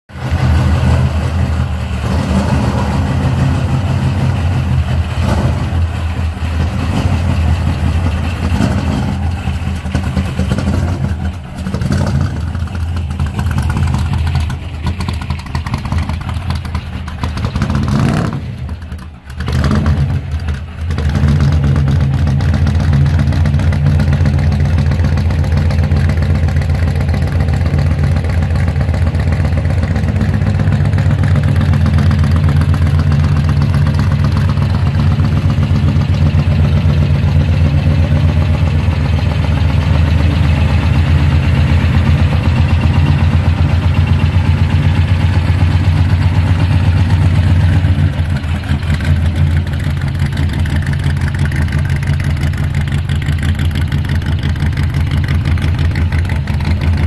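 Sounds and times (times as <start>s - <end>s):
car engine running loud: 0.1s - 57.0s.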